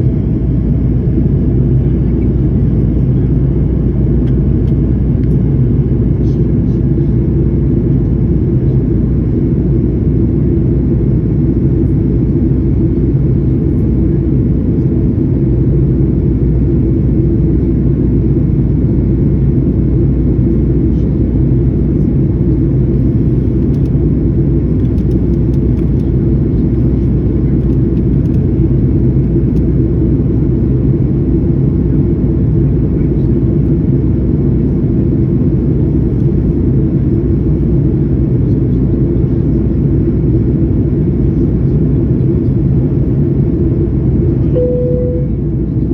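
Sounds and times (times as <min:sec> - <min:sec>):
jet engine rumble in cabin: 0:00.0 - 0:45.9.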